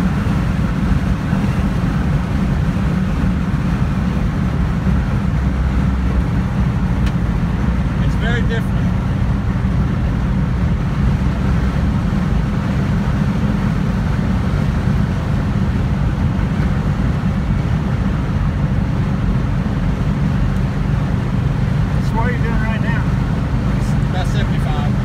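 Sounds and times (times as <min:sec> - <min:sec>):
car engine low rumble: 0:00.0 - 0:25.0
road and wind noise: 0:00.0 - 0:25.0.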